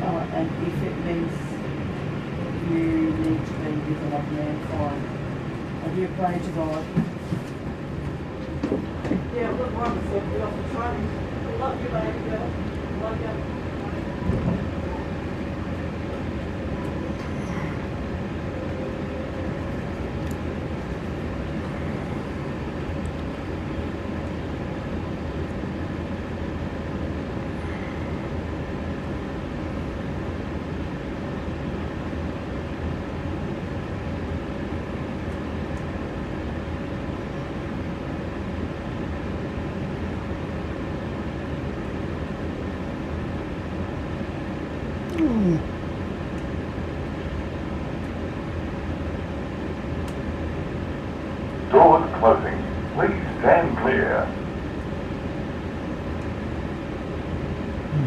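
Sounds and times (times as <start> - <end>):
electric train hum and rumble: 0.0 - 58.0.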